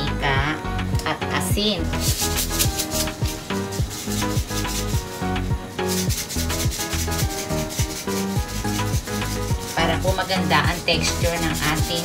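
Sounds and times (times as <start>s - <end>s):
bright dry percussion: 1.8s - 12.0s.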